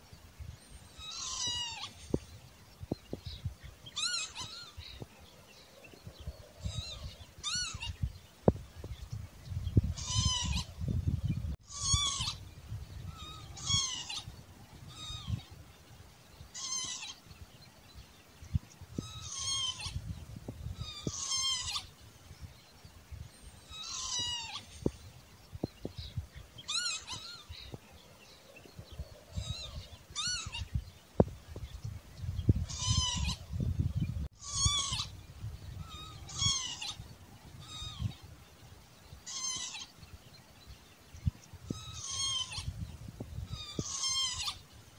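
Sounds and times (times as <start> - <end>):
lapwing calling: 0.6 - 9.2, 9.8 - 15.7, 16.5 - 17.4, 18.6 - 22.1, 23.2 - 38.4, 39.1 - 40.2, 41.2 - 44.8.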